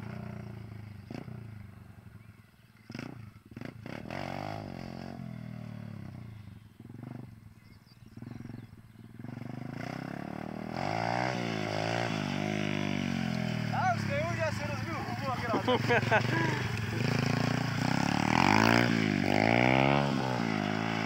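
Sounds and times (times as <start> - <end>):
dirt bike engine revving: 2.8 - 7.3, 8.1 - 21.0.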